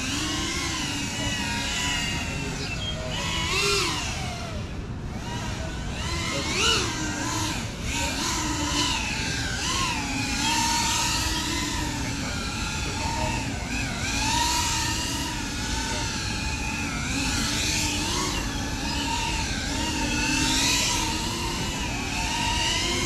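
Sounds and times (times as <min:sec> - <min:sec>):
drone motors and propellers whining: 0:00.0 - 0:23.0.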